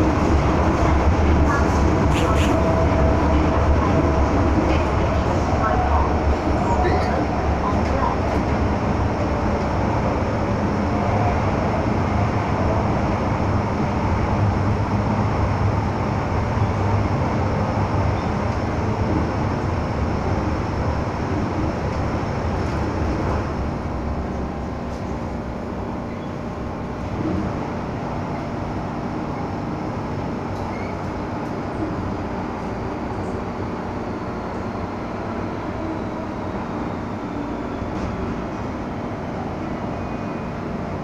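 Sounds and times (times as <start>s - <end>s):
train wheels and motors rumbling: 0.0s - 41.0s.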